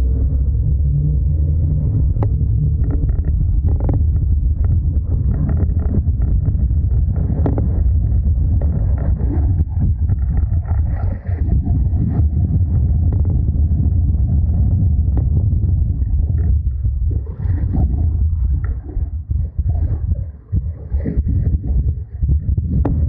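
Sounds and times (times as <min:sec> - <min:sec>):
low droning suspension noise: 0:00.0 - 0:23.0.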